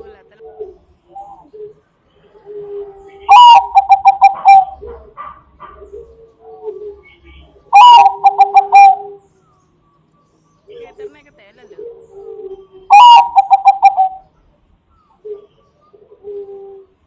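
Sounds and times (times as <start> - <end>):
soft low dove coos: 0.0 - 5.0, 5.8 - 9.6, 11.6 - 17.0
dove song phrases: 0.0 - 5.1, 5.8 - 17.0.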